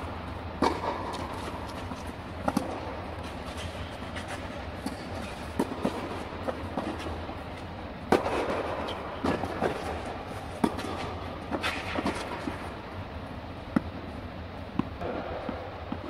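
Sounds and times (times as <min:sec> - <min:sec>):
racket hitting tennis ball: 0:00.0 - 0:12.7, 0:13.6 - 0:14.0
tennis ball bouncing: 0:00.0 - 0:12.7, 0:13.6 - 0:16.0
steady low hum: 0:00.0 - 0:16.0.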